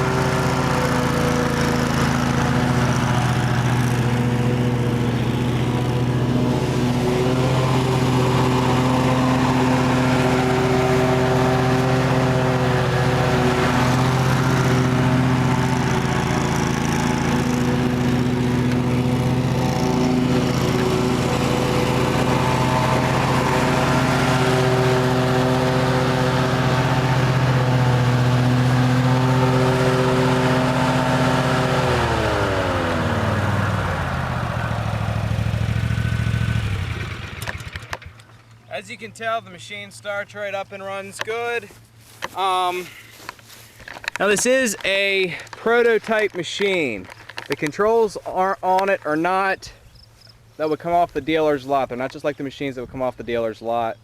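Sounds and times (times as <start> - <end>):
lawn mower engine running: 0.0 - 49.5.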